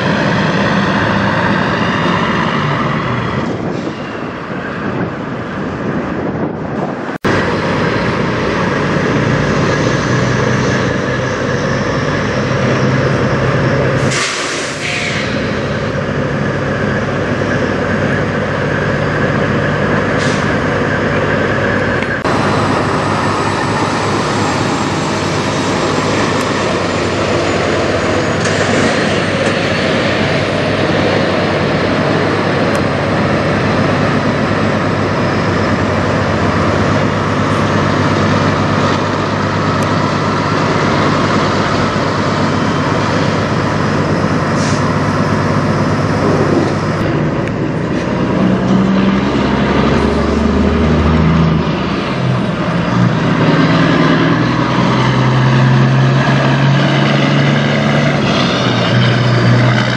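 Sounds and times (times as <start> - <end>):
road noise: 0.0 - 59.9
truck diesel engine running: 0.0 - 59.9.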